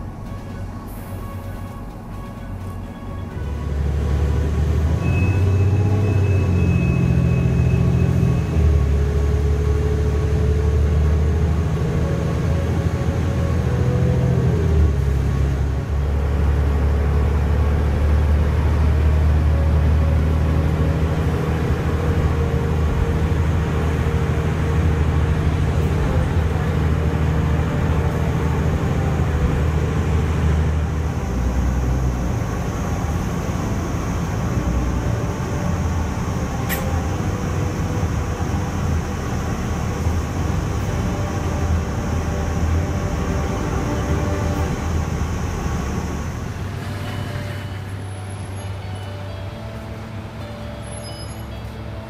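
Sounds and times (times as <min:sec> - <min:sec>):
road vehicle rumble: 0:00.0 - 0:52.0.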